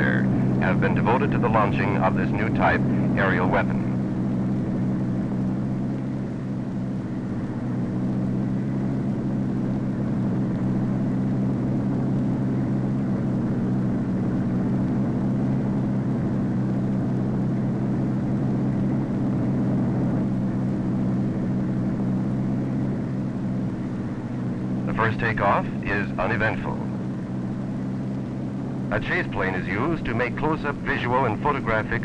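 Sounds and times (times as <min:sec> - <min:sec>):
jet engine drone: 0:00.0 - 0:32.0.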